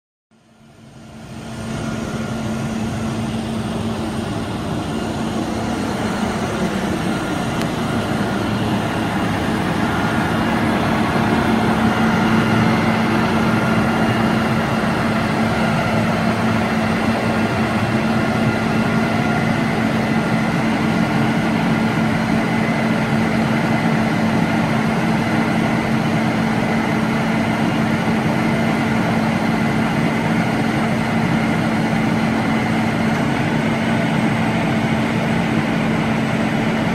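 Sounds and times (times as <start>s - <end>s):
diesel engine droning: 0.4s - 36.9s.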